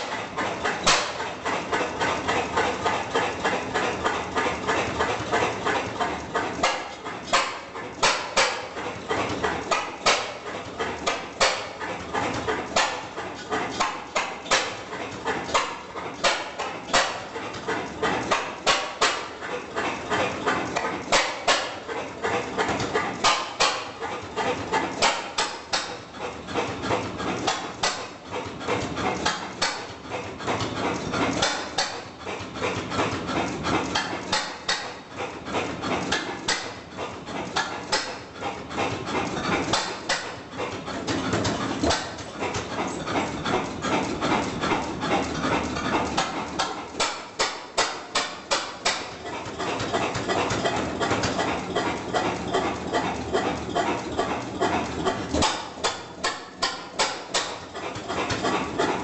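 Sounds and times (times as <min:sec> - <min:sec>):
stationary engine banging: 0:00.0 - 0:59.0.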